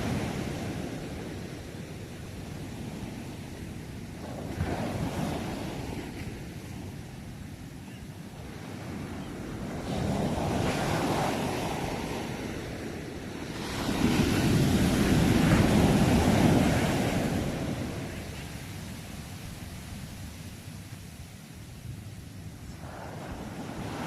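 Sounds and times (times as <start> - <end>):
sea waves breaking on shore: 0.0 - 24.0.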